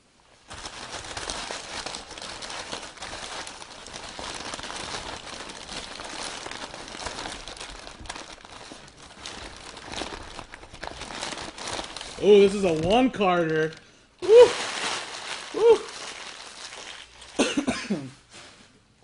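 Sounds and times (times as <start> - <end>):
packaging crinkling and rustling: 0.4 - 18.7.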